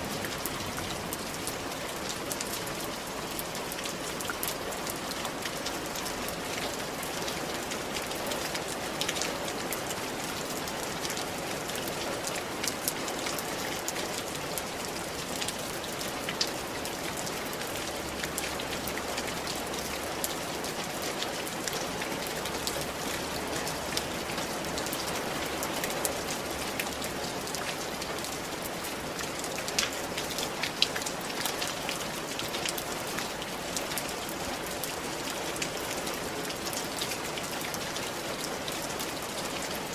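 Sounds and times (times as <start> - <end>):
rain on a tiled roof: 0.0 - 39.9.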